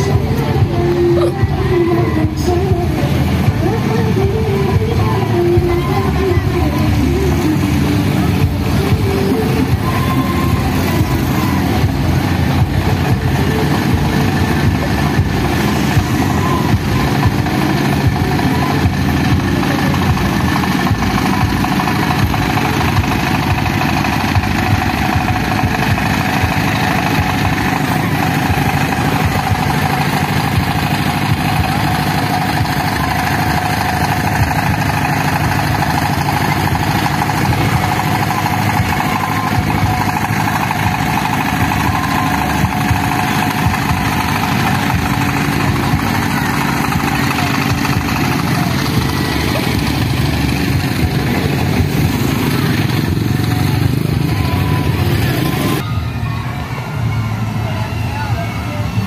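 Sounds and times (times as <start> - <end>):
generator running: 0.0 - 59.0
vehicle engines idling: 0.0 - 59.0.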